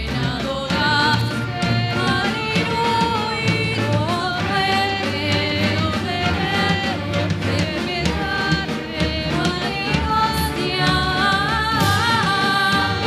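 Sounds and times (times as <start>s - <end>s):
string orchestra playing: 0.0s - 13.0s
woman singing into microphone: 0.0s - 13.0s.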